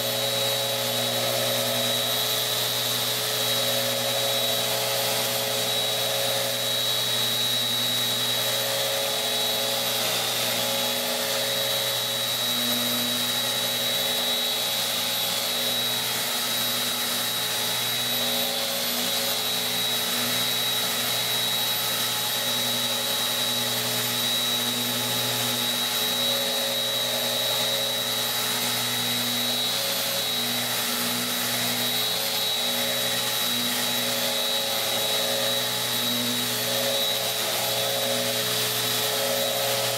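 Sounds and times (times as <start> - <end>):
sander whining on wood: 0.0 - 39.9.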